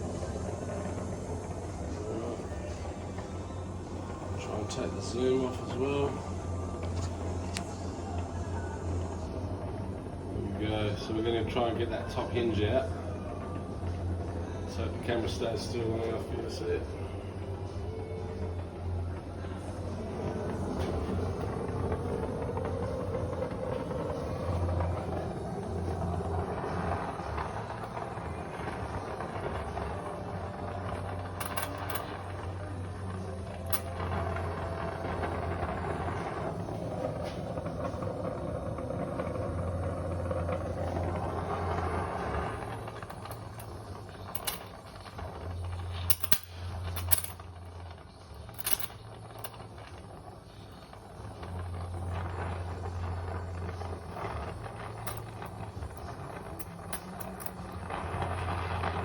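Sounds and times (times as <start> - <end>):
torch flame hissing: 0.0 - 59.0.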